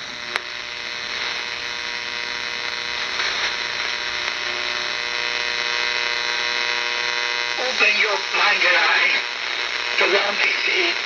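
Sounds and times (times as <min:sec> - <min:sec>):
hum: 0:00.0 - 0:11.0
radio static hiss: 0:00.0 - 0:11.0.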